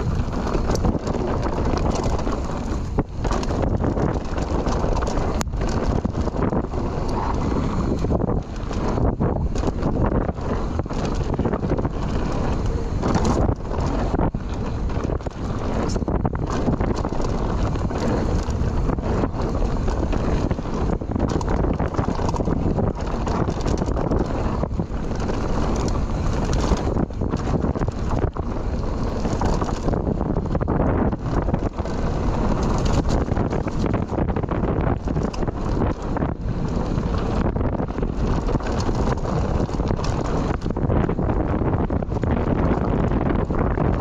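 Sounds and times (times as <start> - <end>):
bike rattling over bumps: 0.0 - 44.0
bike tyre rumble: 0.0 - 44.0
wind buffeting microphone: 0.0 - 44.0.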